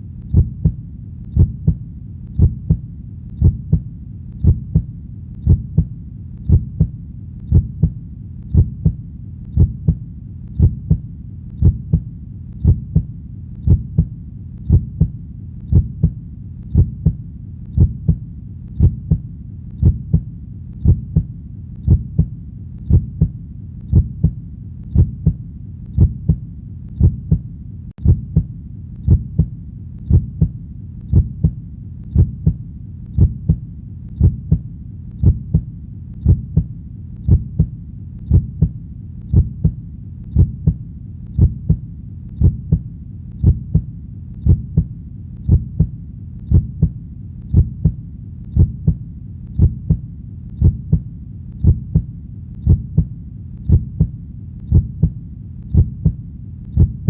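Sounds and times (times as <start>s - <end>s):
heartbeat thumps: 0.0s - 57.0s
low hum: 0.0s - 57.0s.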